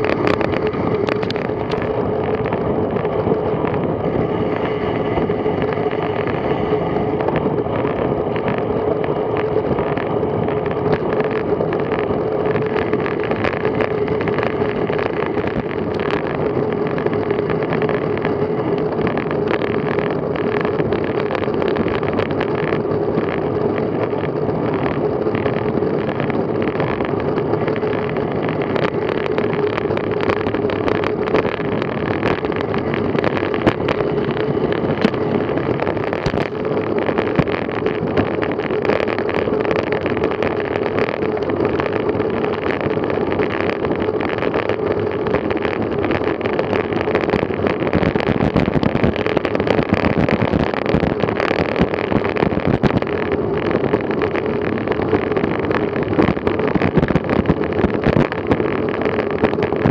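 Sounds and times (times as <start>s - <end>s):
small clicks and rattles: 0.0s - 59.9s
tyre noise on road: 0.0s - 59.9s
wind rushing over microphone: 0.0s - 59.9s.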